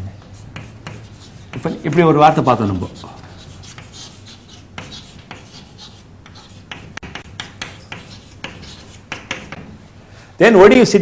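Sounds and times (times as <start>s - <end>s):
chalk writing on chalkboard: 0.2s - 9.7s.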